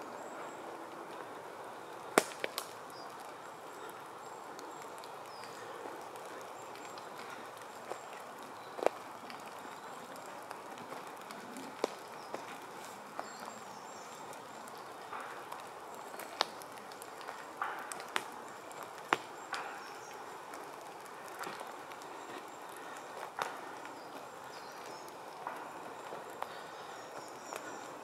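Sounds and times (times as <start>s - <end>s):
leaves and brush rustling: 0.0s - 28.0s
steady background hiss: 0.0s - 28.0s
twigs snapping underfoot: 0.9s - 28.0s.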